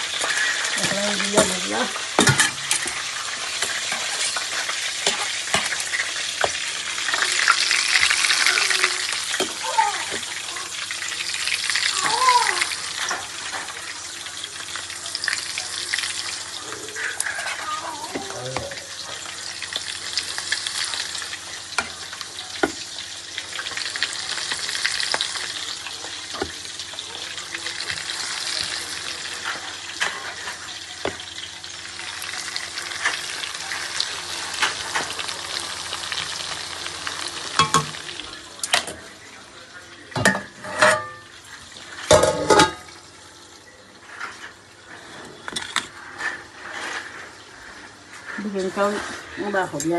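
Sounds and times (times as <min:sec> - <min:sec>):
food sizzling in hot oil: 0:00.0 - 0:49.9.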